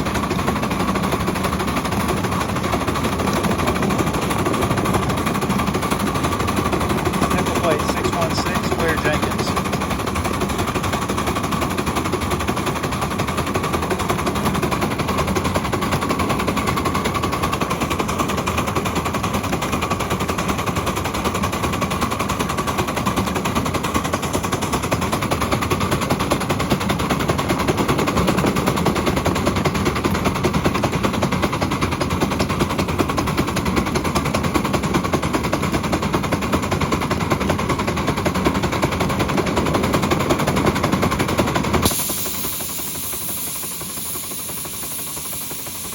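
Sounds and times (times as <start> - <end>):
scale locomotive clattering: 0.0 - 45.9.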